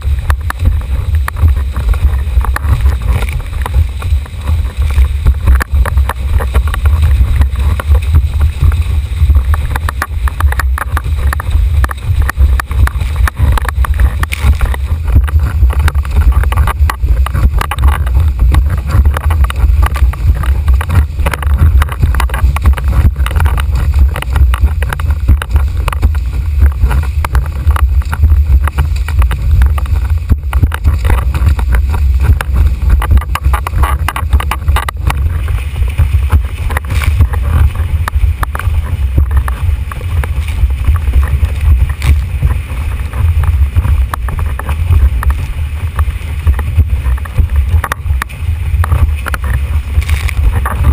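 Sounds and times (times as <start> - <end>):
water rushing and slapping: 0.0 - 50.9
wind buffeting microphone: 0.0 - 50.9.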